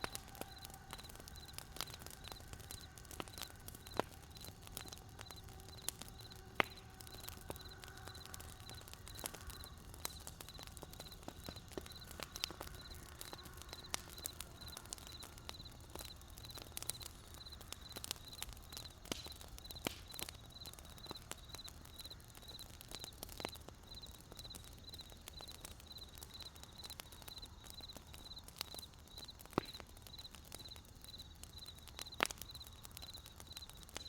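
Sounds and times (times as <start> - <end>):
campfire crackling: 0.0 - 34.0
cricket chirping: 0.0 - 34.0.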